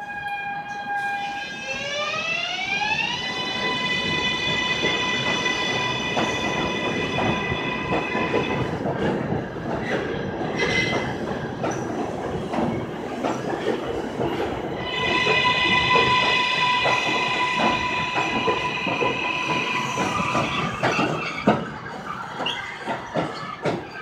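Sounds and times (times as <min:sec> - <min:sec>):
wheels clattering on rails: 0:03.7 - 0:24.0.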